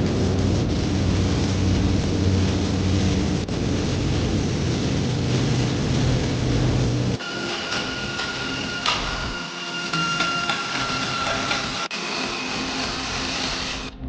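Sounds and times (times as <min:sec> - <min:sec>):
loud mechanical rumble: 0:00.0 - 0:14.0.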